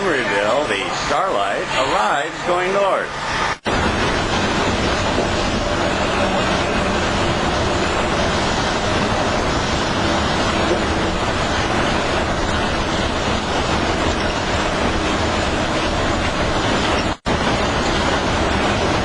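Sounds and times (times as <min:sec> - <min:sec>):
train rolling rumble and hiss: 0:00.0 - 0:19.0.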